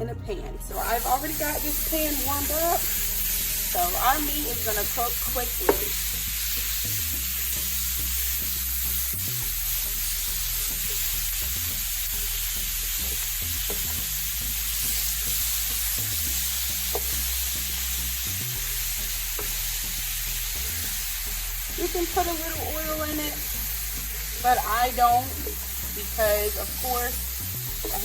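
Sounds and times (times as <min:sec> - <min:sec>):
meat sizzling in a frying pan: 0:00.7 - 0:28.0.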